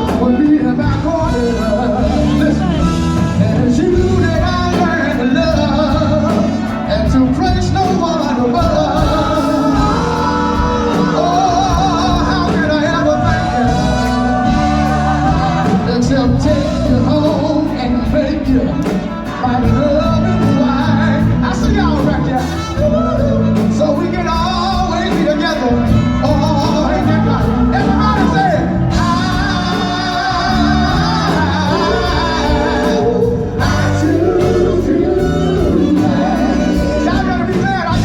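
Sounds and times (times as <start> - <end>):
live band playing: 0.0 - 38.0
person singing: 0.0 - 38.0
steady drum beat: 0.0 - 38.0.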